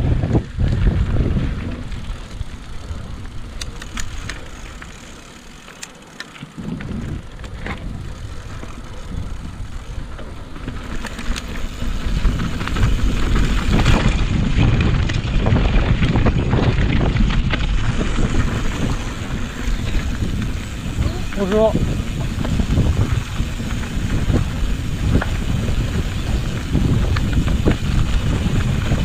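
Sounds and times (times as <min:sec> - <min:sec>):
wind noise on microphone: 0:00.0 - 0:05.5, 0:06.5 - 0:29.0
bike tyres rumbling on rocky trail: 0:00.0 - 0:29.0
stones and bike clicking: 0:00.0 - 0:29.0.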